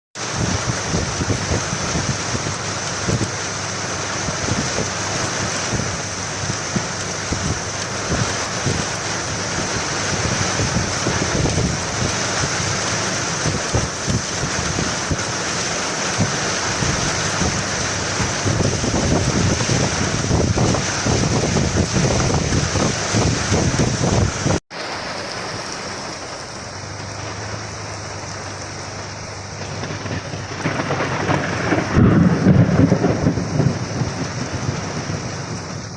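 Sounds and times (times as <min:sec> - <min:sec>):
heavy rain pouring: 0:00.2 - 0:35.9.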